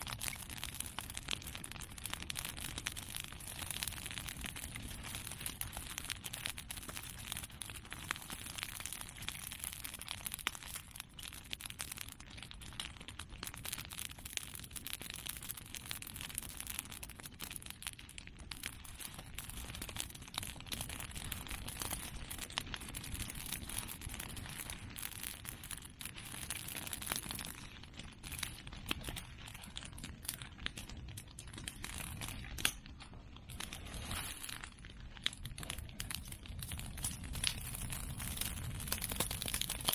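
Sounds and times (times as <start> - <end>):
open fire crackling: 0.0 - 39.9.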